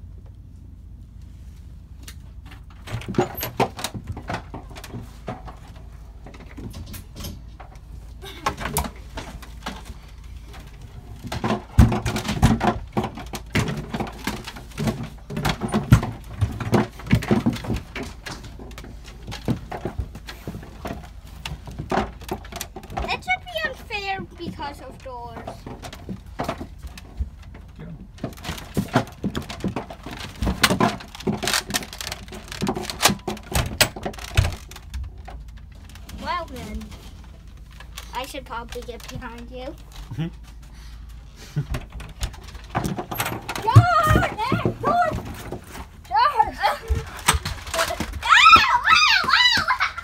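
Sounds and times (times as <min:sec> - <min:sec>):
thumps and knocks: 0:02.4 - 0:40.0, 0:41.6 - 0:50.0.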